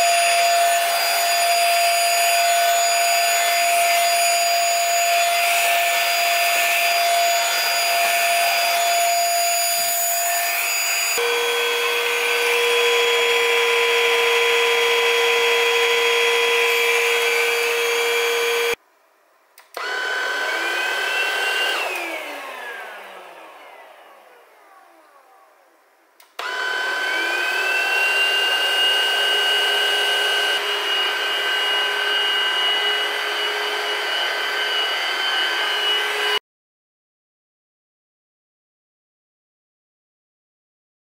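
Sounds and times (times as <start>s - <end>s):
vacuum cleaner motor whine: 0.0s - 18.8s, 19.8s - 36.4s.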